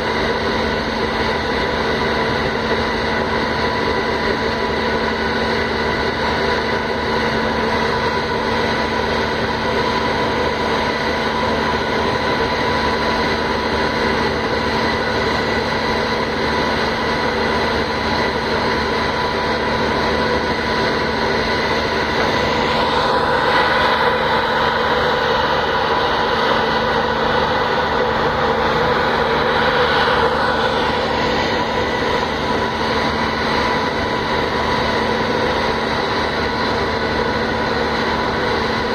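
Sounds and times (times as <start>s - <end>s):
ship machinery drone: 0.0s - 38.9s
steady humming tones: 0.0s - 38.9s.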